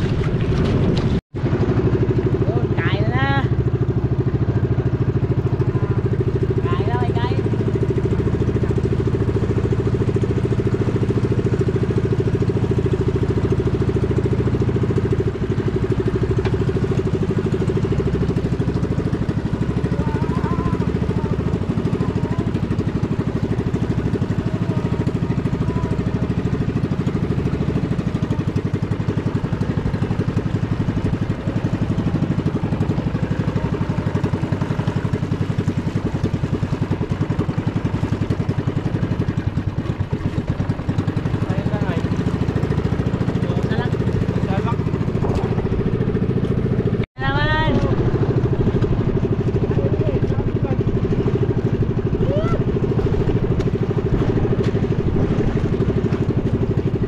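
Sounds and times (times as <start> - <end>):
small boat engine droning: 0.0 - 57.0.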